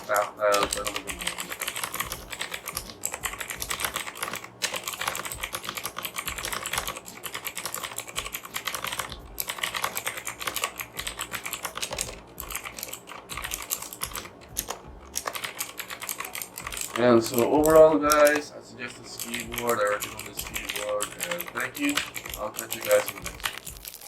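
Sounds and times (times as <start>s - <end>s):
mechanical keyboard typing: 0.0s - 18.5s, 19.2s - 24.0s.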